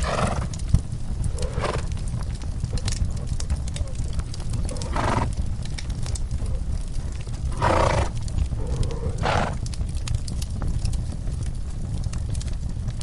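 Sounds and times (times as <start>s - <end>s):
fireplace crackling and popping: 0.0s - 13.0s
steady low rumble: 0.0s - 13.0s.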